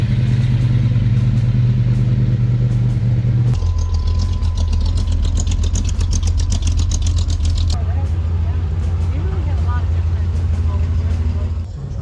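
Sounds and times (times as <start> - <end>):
car engine idling: 0.0 - 12.0
lower engine rumble: 0.0 - 12.0.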